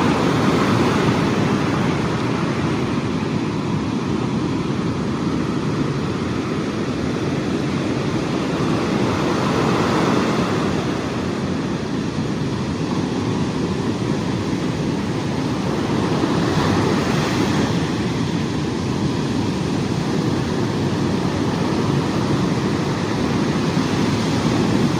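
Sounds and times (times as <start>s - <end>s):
sea waves breaking: 0.0s - 24.9s
wind on microphone: 0.0s - 24.9s.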